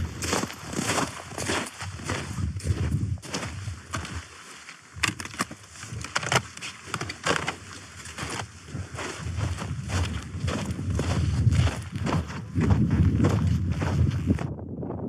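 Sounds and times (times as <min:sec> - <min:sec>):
footsteps on wooden stile: 0:00.0 - 0:14.4
footsteps crunching in snow: 0:00.0 - 0:14.5.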